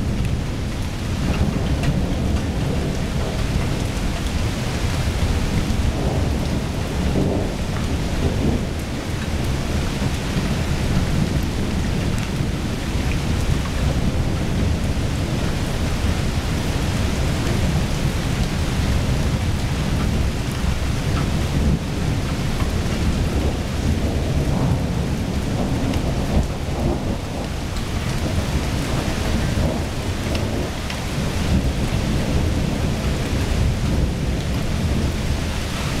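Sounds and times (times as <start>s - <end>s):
low rumble of thunder: 0.0s - 36.0s
steady rain: 0.0s - 36.0s.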